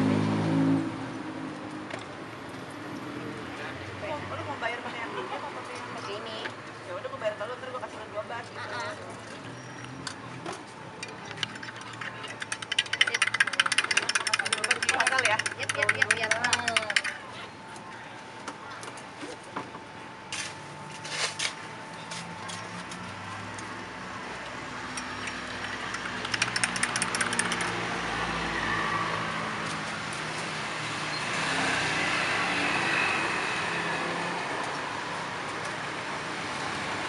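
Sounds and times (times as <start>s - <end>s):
passing motor traffic: 0.0s - 17.4s, 22.1s - 37.0s.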